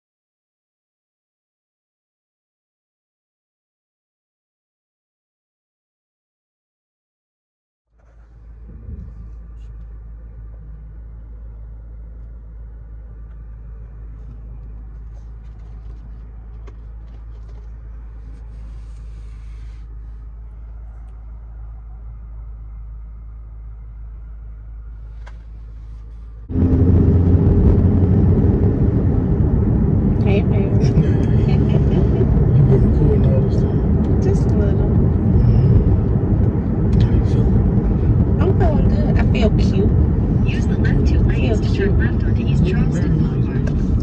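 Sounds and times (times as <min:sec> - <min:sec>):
car driving cabin rumble: 0:08.0 - 0:44.0.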